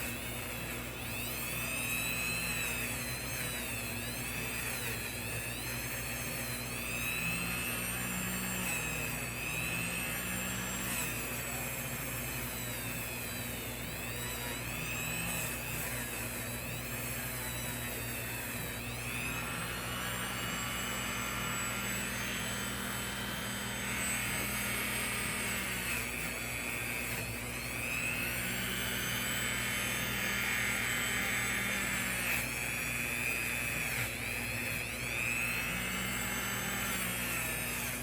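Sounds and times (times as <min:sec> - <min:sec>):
rotary tool whining: 0:00.0 - 0:38.0.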